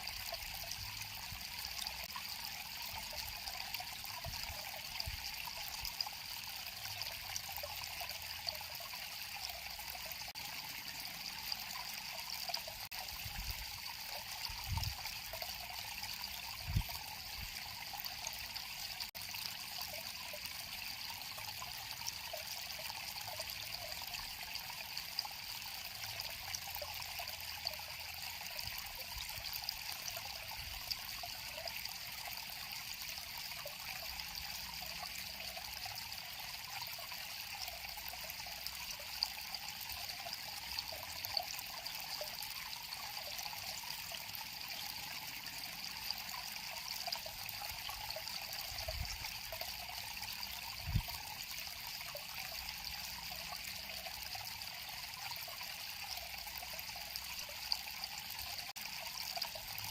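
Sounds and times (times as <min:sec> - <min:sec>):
water trickling over stones: 0:00.0 - 0:59.9.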